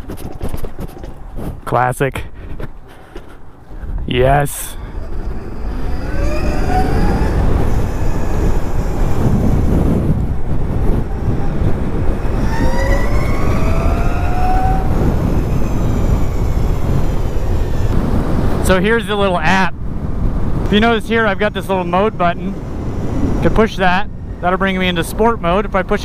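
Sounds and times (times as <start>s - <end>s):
wind rumble on microphone: 0.0s - 26.0s
electric motorcycle whine: 4.4s - 26.0s.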